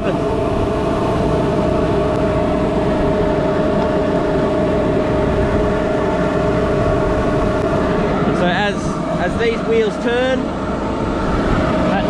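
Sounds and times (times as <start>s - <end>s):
tractor and vacuum fan drone: 0.0s - 12.0s.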